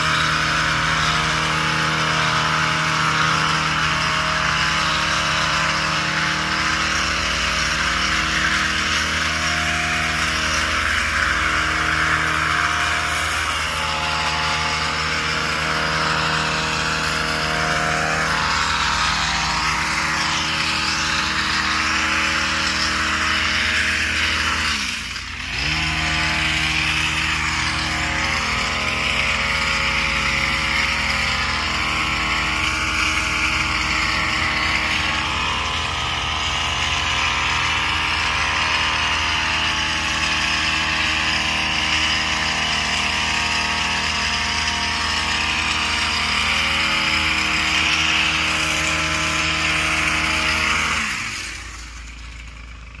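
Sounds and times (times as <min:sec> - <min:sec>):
small petrol engine running: 0:00.0 - 0:53.0.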